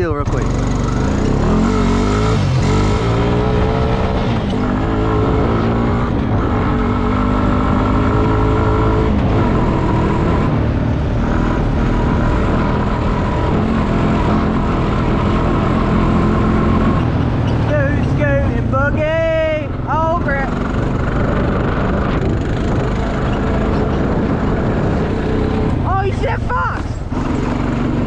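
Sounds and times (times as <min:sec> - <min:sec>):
motorcycle engine accelerating hard: 0:00.0 - 0:28.0
rush of wind: 0:00.0 - 0:28.0.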